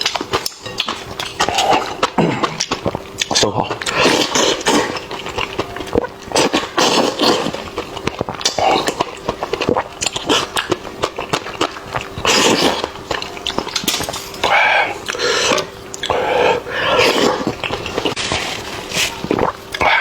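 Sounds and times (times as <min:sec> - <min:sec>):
wet chewing and lip-smacking: 0:00.0 - 0:16.3.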